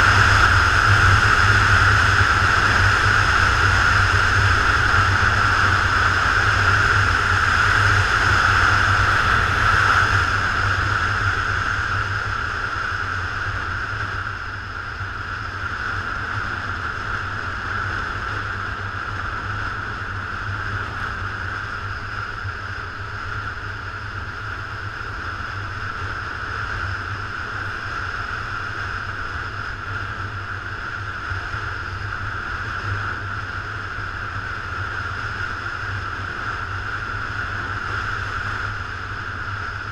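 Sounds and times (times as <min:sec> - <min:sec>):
wind rush: 0:00.0 - 0:39.9.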